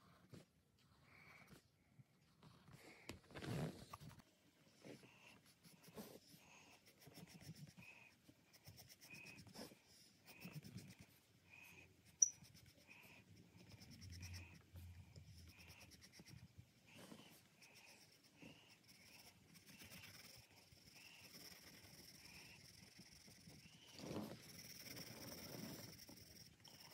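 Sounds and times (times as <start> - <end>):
pencil scratching on paper: 4.8 - 26.9.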